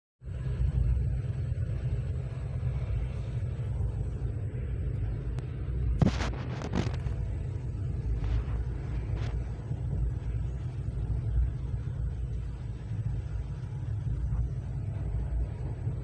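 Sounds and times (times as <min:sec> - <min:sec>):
moving train rumble: 0:00.2 - 0:16.0.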